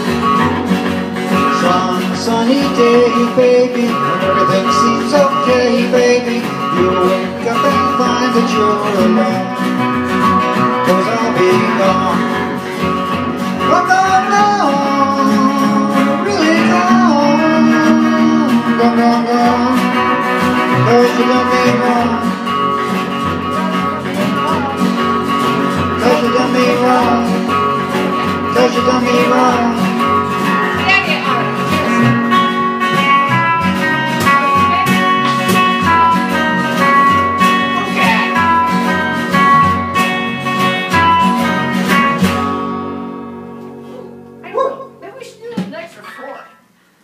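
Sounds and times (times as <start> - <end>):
upright bass: 0.0 - 45.8
electric guitar lead line: 0.0 - 45.9
acoustic guitar strumming: 0.0 - 47.0.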